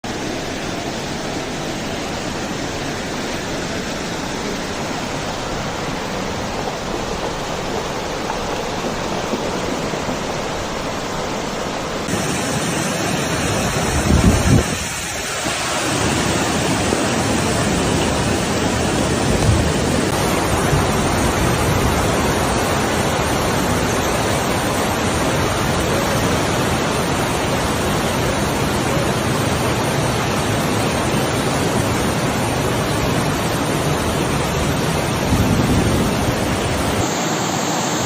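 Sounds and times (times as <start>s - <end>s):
torrential rain and floodwater rushing: 0.0s - 38.0s.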